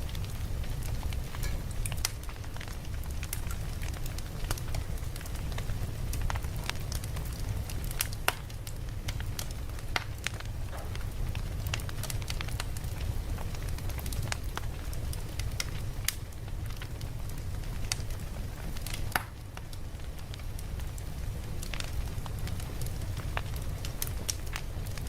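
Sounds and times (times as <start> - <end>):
low rumble of fire: 0.0 - 25.0
campfire pops and snaps: 0.1 - 25.0.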